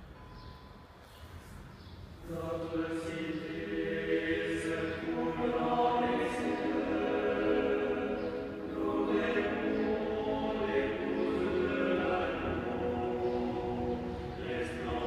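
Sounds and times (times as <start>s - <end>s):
choir singing chant: 2.2s - 15.0s.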